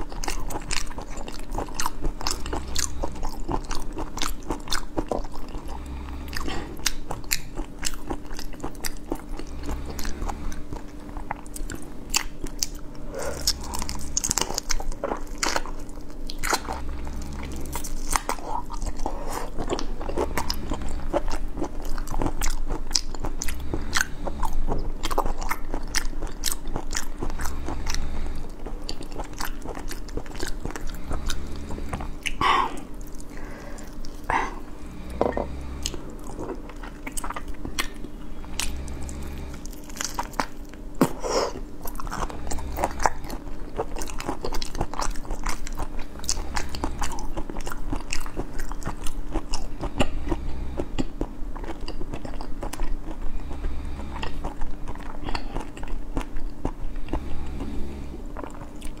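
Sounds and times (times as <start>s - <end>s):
person chewing shrimp: 0.0s - 59.0s.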